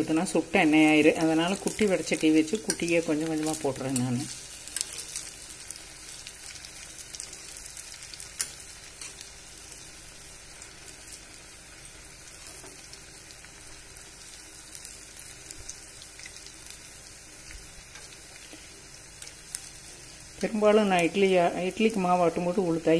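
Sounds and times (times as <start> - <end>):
food sizzling in hot oil: 0.0 - 22.9.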